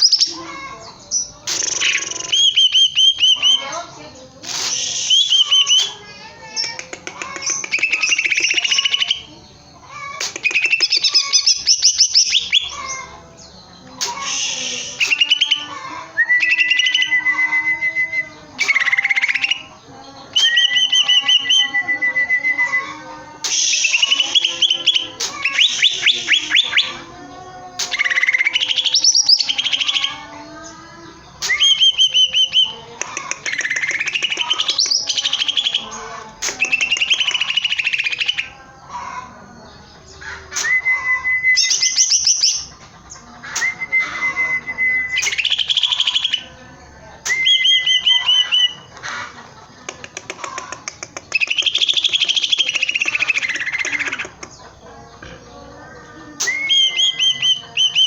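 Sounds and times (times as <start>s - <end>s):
bird singing trills and whistles: 0.0s - 38.8s, 39.6s - 49.1s, 50.0s - 55.4s, 56.0s - 58.0s.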